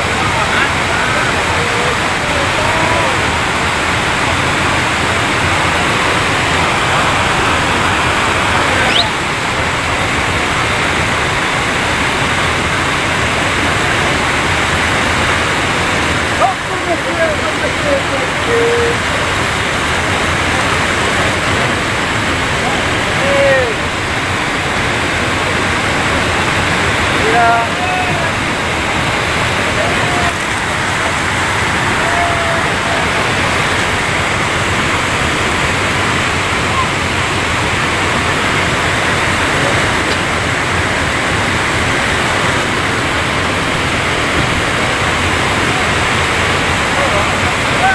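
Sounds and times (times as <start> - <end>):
water rushing over weir: 0.0 - 47.9.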